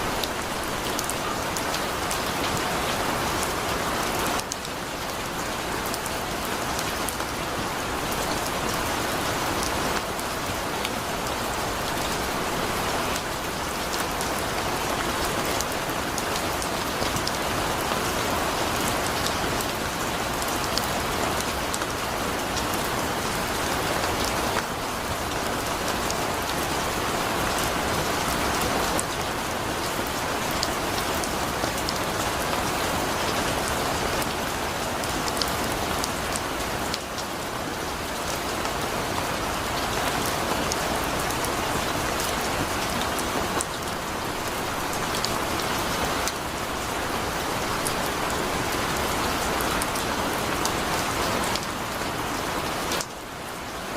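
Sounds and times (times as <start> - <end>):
heavy rain falling: 0.0 - 53.9
raindrops ticking on a surface: 0.1 - 53.1.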